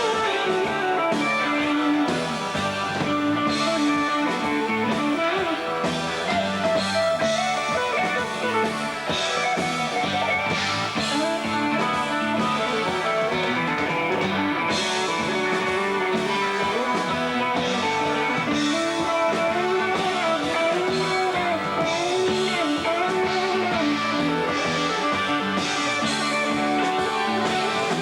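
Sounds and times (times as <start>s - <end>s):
drums: 0.0s - 28.0s
electric guitar: 0.0s - 28.0s.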